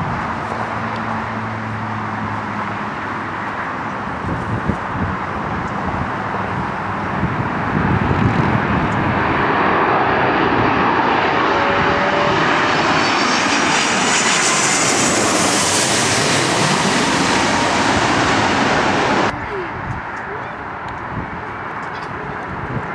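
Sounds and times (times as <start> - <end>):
airliner engine noise: 0.0 - 22.9
high engine whine: 0.0 - 22.9.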